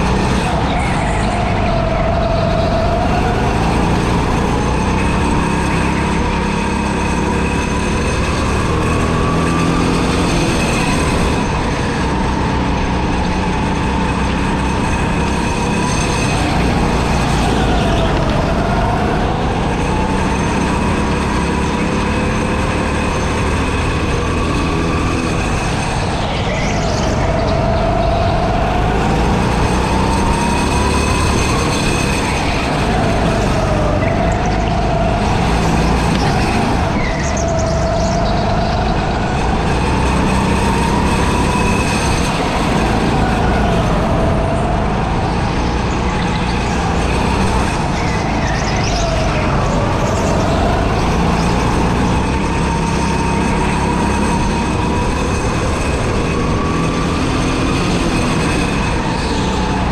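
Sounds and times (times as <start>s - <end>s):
go-kart engine whining: 0.0s - 59.9s.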